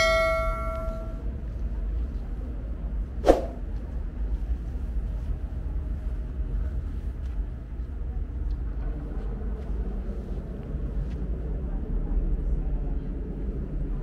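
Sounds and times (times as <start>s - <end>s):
low rumble of background noise: 0.0s - 14.0s.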